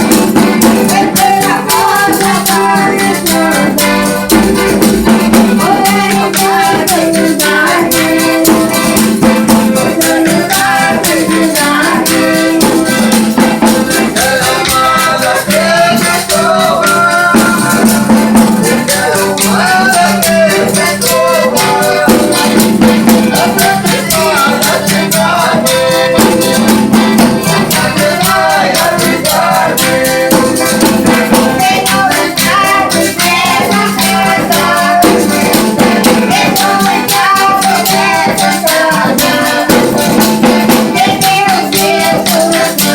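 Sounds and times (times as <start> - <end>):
held instrumental tones: 0.0 - 42.9
shaken percussion rhythm: 0.0 - 42.9
voices singing folk melody: 0.0 - 42.9.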